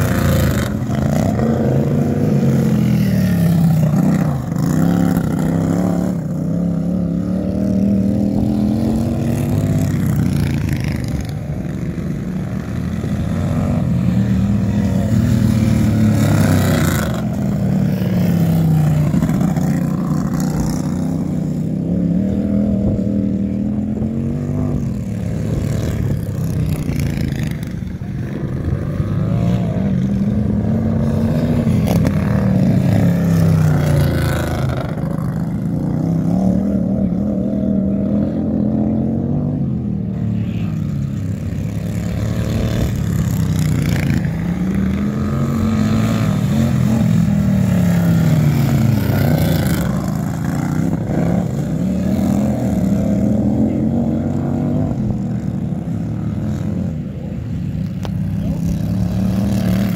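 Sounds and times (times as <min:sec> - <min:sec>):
racing lawnmower engines: 0:00.0 - 0:59.9.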